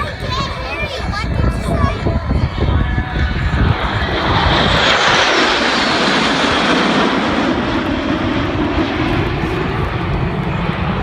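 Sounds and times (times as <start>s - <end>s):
fighter jet flying past: 0.0s - 11.0s.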